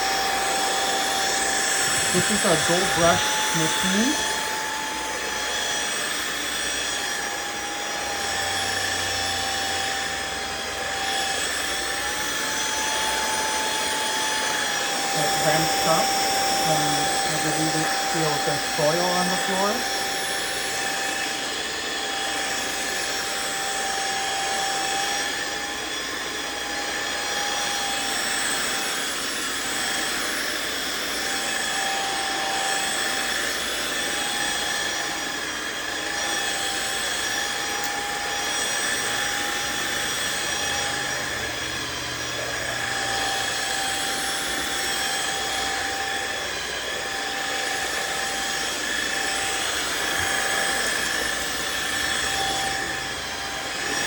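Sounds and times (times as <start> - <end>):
floor washer suction motor whine: 0.0 - 54.0.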